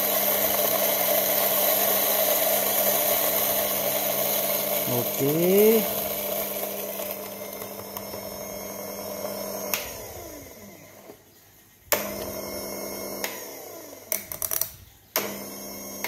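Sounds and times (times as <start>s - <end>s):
coffee grinder motor humming: 0.0s - 11.2s, 12.0s - 16.0s.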